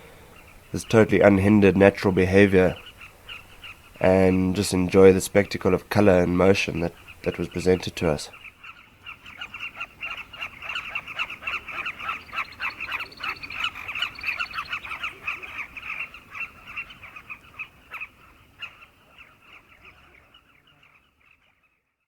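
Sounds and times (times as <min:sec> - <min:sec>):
birds calling in chorus: 0:00.0 - 0:21.8.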